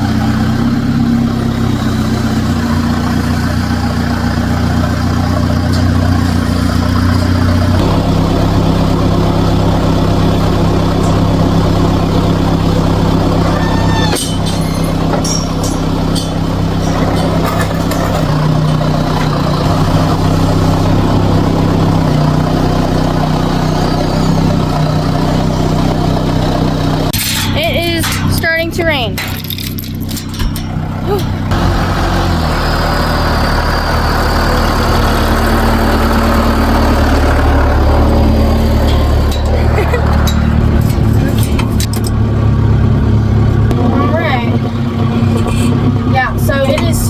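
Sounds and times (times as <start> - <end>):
vehicle engine revving: 0.0 - 47.0.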